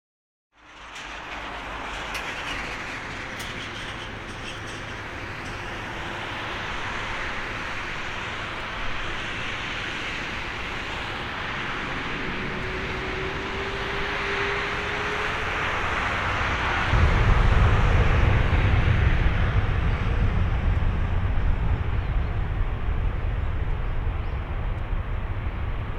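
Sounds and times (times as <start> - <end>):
jet engine roar: 0.6 - 25.9
faint rising whine: 4.9 - 25.9.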